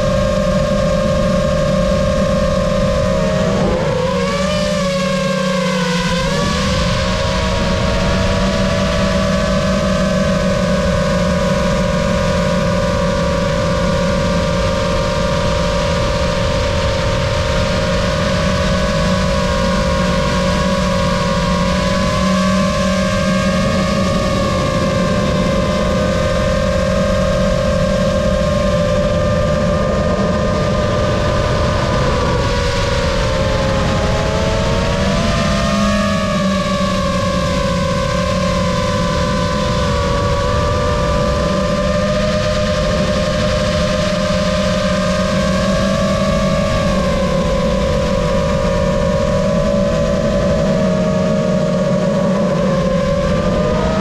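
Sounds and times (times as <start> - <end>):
drone motors whining: 0.0 - 54.0
low rushing noise: 0.0 - 54.0.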